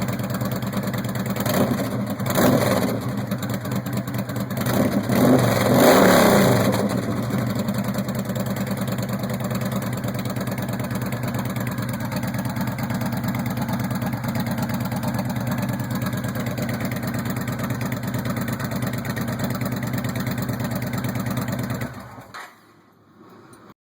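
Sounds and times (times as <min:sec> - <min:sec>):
motorcycle engine idling: 0:00.0 - 0:05.8, 0:06.5 - 0:22.3.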